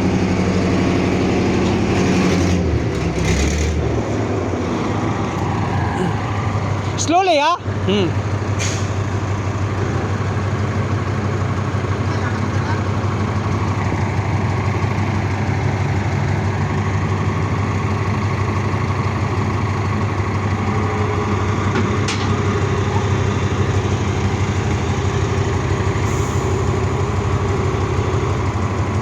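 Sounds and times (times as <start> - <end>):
heavy machine engine idling: 0.0 - 29.0.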